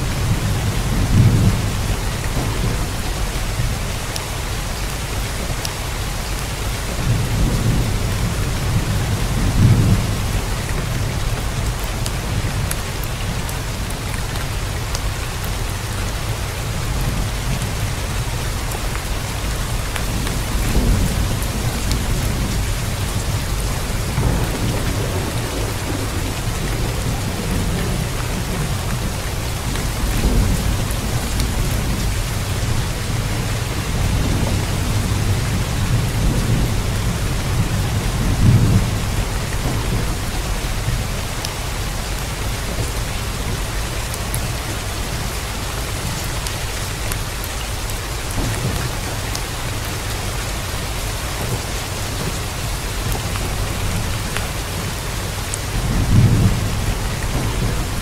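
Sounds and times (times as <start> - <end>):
thunder rumbling: 0.0 - 5.5, 6.2 - 58.0
heavy rain: 0.0 - 58.0.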